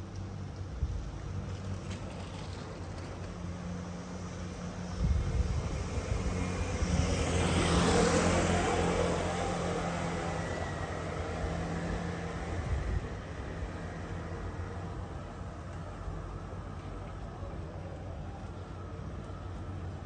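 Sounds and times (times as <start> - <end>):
motor scooter passing: 1.0 - 20.0.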